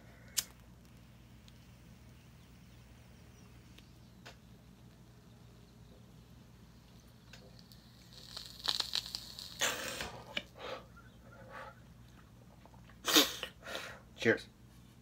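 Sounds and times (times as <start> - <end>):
pipe hiss with crackling: 0.0 - 14.3.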